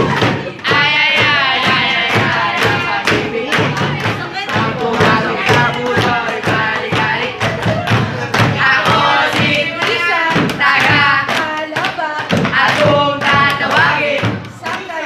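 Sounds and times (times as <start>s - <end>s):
steady thumping beat: 0.0s - 15.0s
voices singing: 0.0s - 15.0s.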